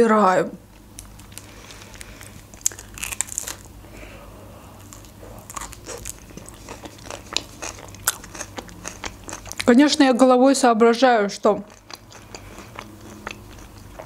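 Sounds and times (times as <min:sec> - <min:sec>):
person chewing sushi: 0:00.7 - 0:09.8, 0:11.6 - 0:14.0.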